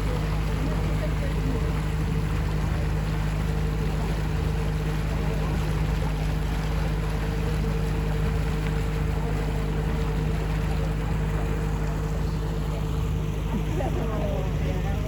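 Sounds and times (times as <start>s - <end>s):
boat engine humming: 0.0s - 15.0s
water wash: 0.0s - 15.0s.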